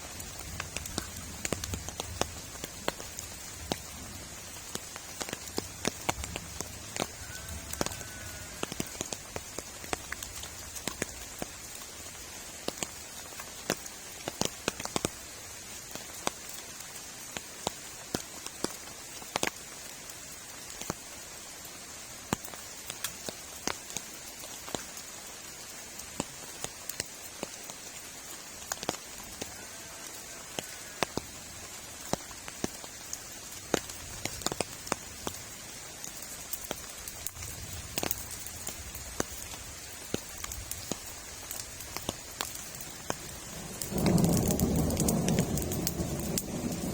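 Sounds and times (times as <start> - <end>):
raindrops tapping on surface: 0.0 - 46.9
steady rain: 0.0 - 46.9.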